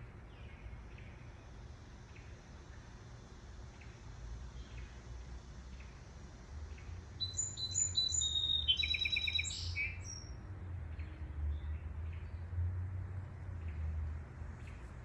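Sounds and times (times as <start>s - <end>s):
songbird singing: 0.0s - 12.7s, 13.3s - 15.0s.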